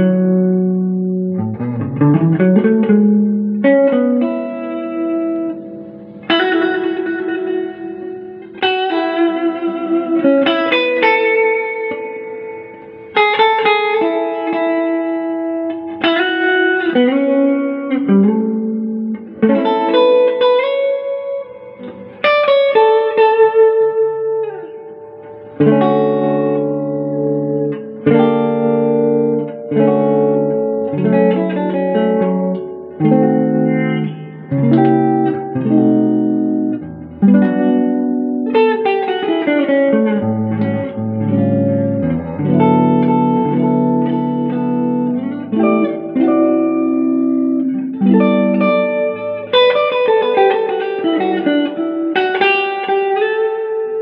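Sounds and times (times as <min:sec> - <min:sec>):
electric guitar chords and notes: 0:00.0 - 0:54.0.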